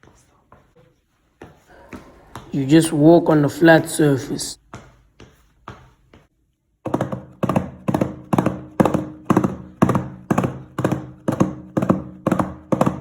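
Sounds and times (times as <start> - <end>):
footsteps on hard surface: 0.0 - 13.0.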